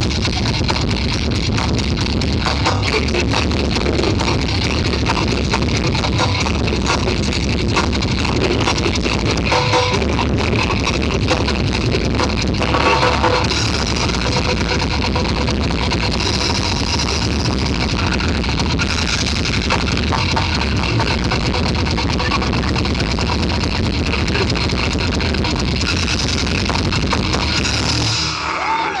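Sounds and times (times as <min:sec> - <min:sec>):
distorted electronic music: 0:00.0 - 0:29.0.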